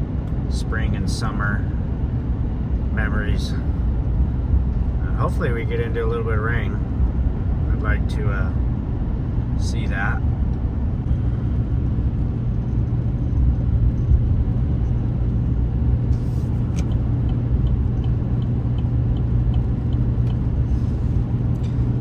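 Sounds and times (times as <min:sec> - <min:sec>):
vehicle road rumble from inside: 0:00.0 - 0:22.0.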